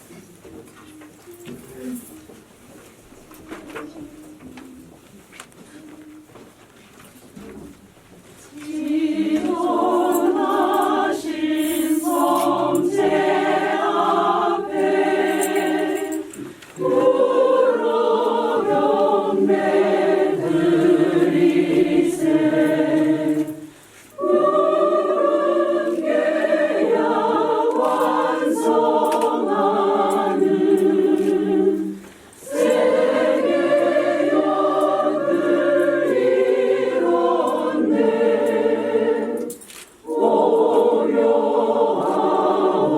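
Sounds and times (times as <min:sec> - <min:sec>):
choir singing a hymn: 0:08.5 - 0:42.9.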